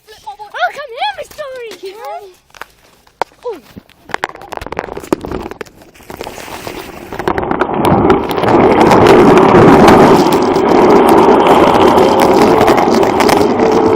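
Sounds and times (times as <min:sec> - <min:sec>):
skateboard wheels rolling on pavement: 0:00.0 - 0:13.9.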